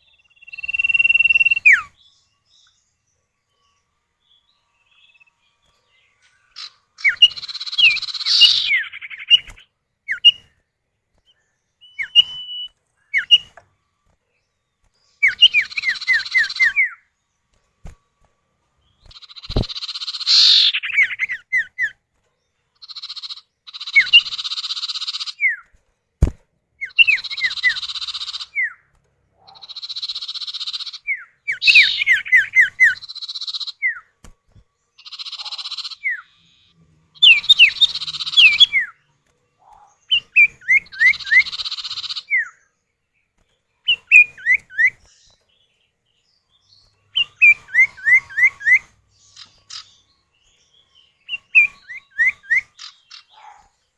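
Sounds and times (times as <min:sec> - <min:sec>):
harsh buzzy bird calls: 0:00.0 - 0:10.6, 0:11.3 - 0:18.2, 0:18.8 - 0:25.7, 0:26.8 - 0:53.9.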